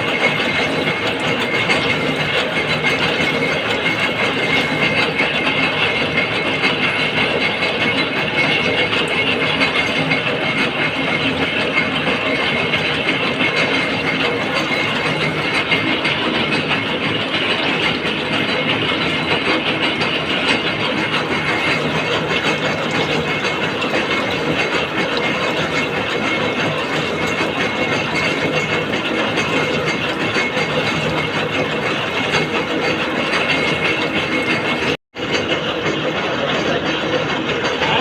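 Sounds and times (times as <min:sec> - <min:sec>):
gear cutting machine clattering: 0:00.0 - 0:38.0.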